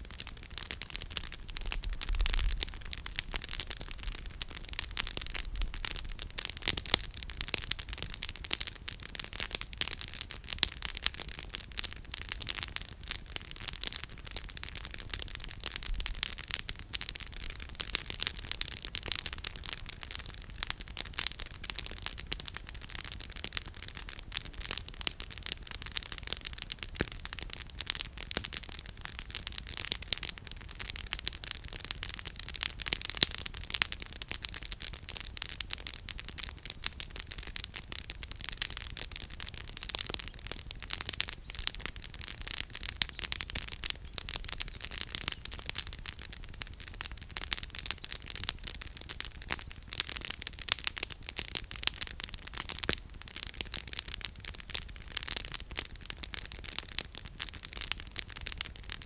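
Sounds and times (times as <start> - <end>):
burning wood popping: 0.0 - 59.0
campfire crackling: 0.0 - 59.0.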